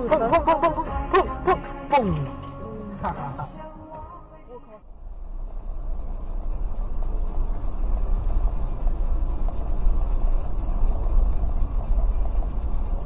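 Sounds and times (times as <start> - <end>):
car engine rumble: 0.0 - 13.0
road noise inside car: 0.0 - 13.0.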